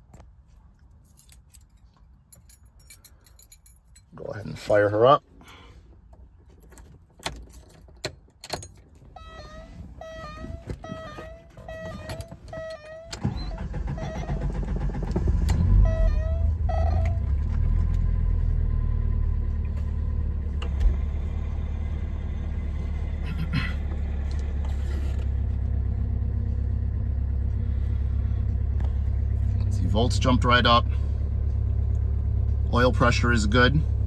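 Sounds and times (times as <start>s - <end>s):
car engine starting and idling: 3.1s - 34.0s.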